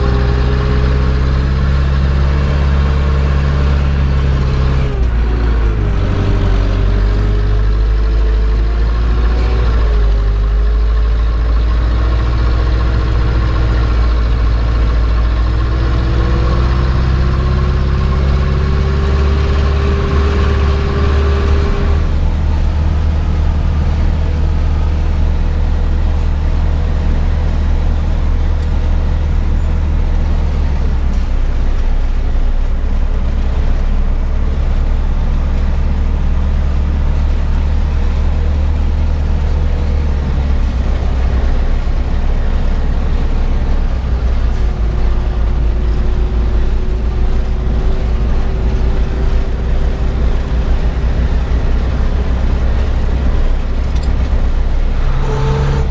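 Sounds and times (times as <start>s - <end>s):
tractor diesel engine droning: 0.0s - 55.9s.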